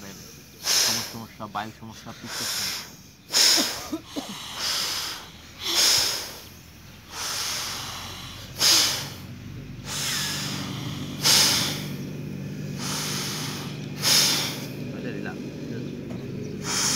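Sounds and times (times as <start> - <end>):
forceful breathing through nose: 0.0 - 14.9, 16.4 - 16.9.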